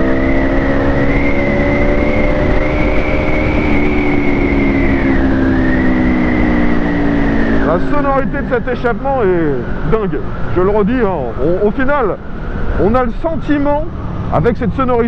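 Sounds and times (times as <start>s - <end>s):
motorcycle engine and exhaust: 0.0s - 15.0s
steady rushing noise: 0.0s - 15.0s.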